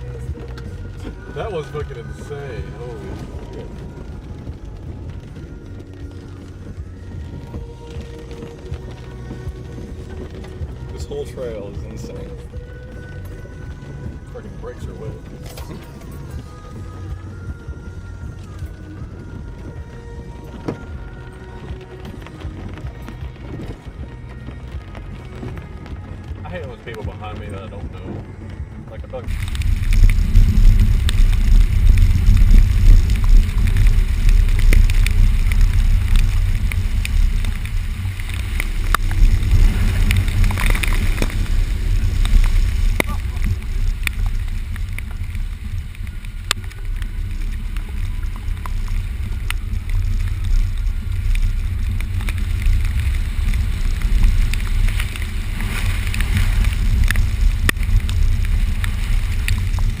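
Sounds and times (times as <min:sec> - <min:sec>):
car driving low rumble: 0:00.0 - 1:00.0.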